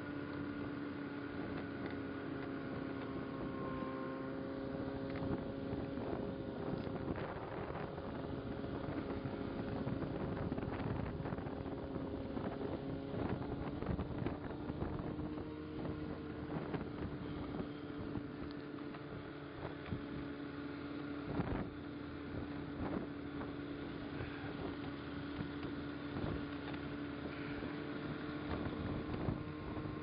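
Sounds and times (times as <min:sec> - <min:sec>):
low motor hum: 0:00.0 - 0:30.0
wind noise on microphone: 0:02.6 - 0:30.0.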